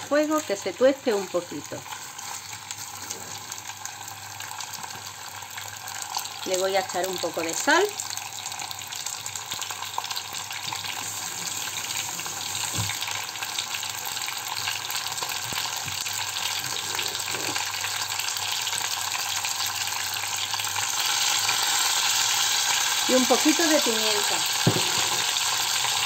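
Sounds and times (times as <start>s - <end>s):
chicken bones sizzling in oil: 0.0s - 26.0s.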